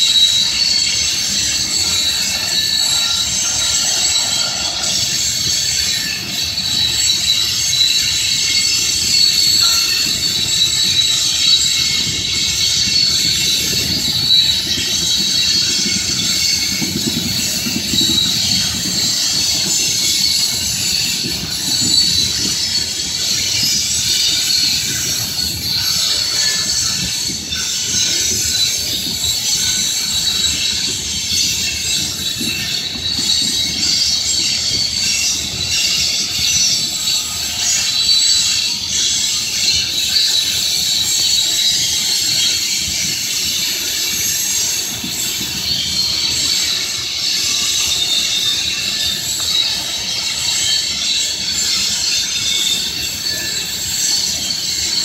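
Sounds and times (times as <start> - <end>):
low rumble of wheels on rail: 0.0 - 55.0
train wheels squealing: 0.0 - 55.0.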